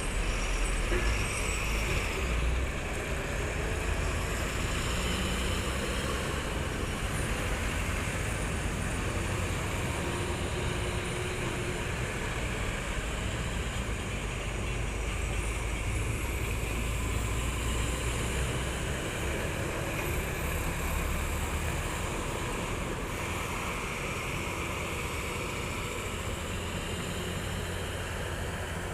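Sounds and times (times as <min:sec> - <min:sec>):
road noise: 0:00.0 - 0:28.9
truck engines running: 0:00.0 - 0:28.9.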